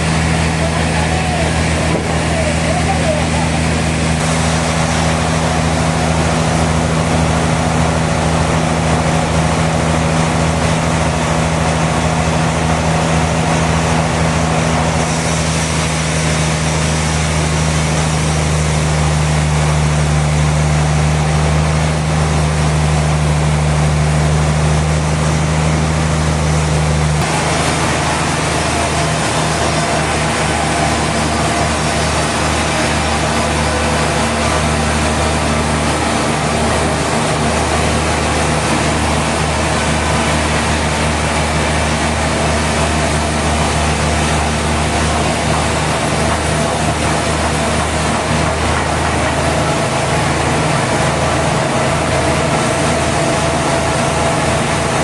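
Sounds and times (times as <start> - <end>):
dense rushing noise: 0.0 - 55.0
sawmill motor hum: 0.0 - 55.0.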